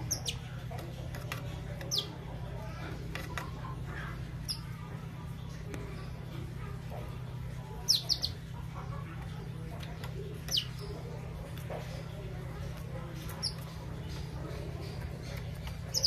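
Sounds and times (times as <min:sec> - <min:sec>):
canary chirping: 0:00.0 - 0:16.0
steady low hum: 0:00.0 - 0:16.0.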